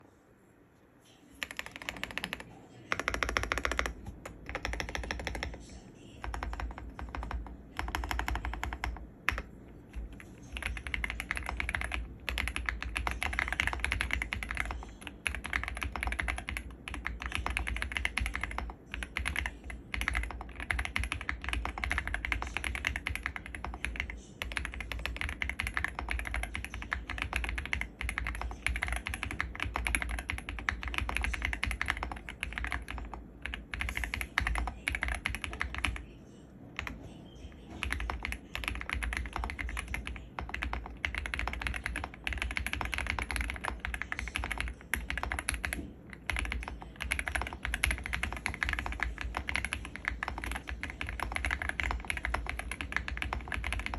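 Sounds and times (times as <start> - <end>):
fast typing on mechanical keyboard: 1.4 - 36.2, 36.8 - 53.9.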